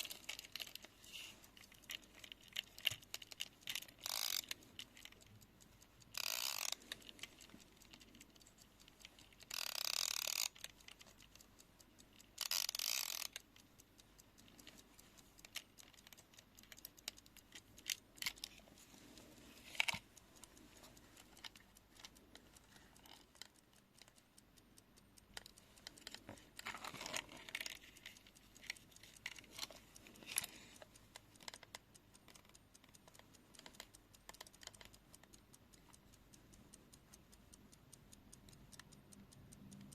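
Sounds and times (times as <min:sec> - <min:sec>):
clock mechanism clicks: 0:00.0 - 0:39.9.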